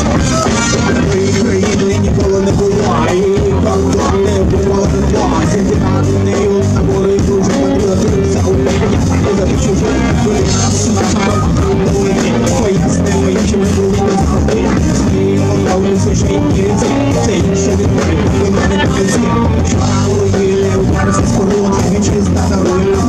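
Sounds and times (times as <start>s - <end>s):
drums keeping a steady beat: 0.0s - 23.0s
electric guitars: 0.0s - 23.0s
man singing into a microphone: 0.0s - 23.0s.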